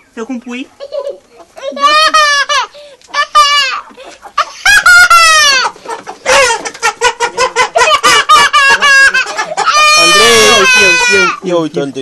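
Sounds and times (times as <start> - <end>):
chicken squawking and cackling: 0.0 - 11.5.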